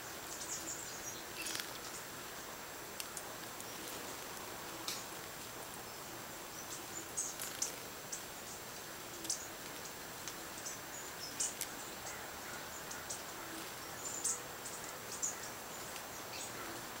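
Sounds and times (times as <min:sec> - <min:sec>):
songbirds chirping: 0:00.0 - 0:17.0
steady outdoor hiss: 0:00.0 - 0:17.0.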